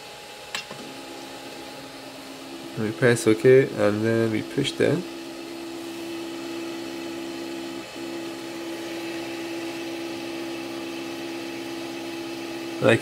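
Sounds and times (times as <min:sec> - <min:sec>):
printer motor humming: 0:00.0 - 0:13.0.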